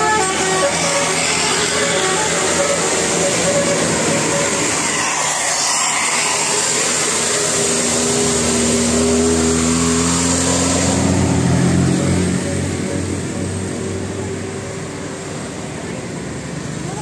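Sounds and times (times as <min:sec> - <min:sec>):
engine hum: 0:00.0 - 0:17.0
road noise of passing vehicle: 0:00.0 - 0:17.0.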